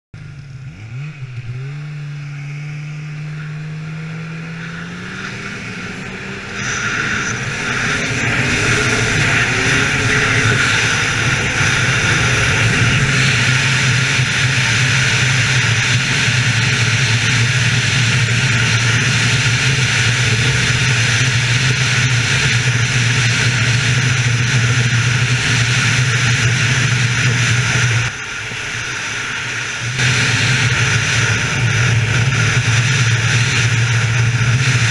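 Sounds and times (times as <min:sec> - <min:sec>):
snowmobile engine pulling hard: 0:00.2 - 0:34.9
rushing hiss of wind and track: 0:04.5 - 0:34.9.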